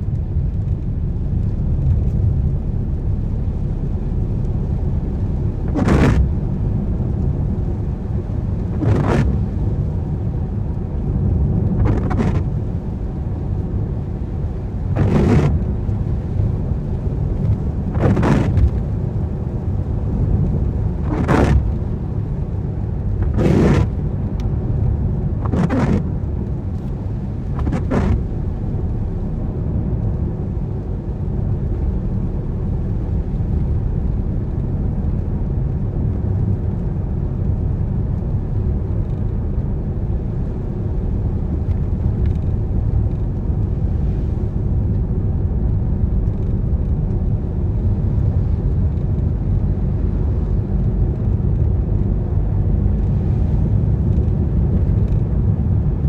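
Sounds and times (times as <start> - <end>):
tyres on wet road: 0.0 - 56.0.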